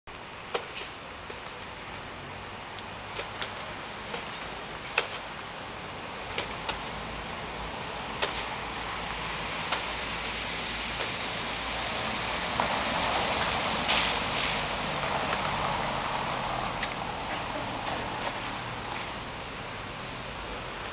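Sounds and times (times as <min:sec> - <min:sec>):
outdoor hiss: 0:00.1 - 0:20.9.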